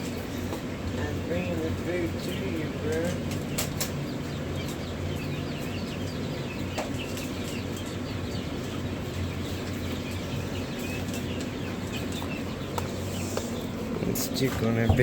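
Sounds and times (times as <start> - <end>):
small poultry birds peeping: 0.0 - 15.0
steady low hum: 0.0 - 15.0.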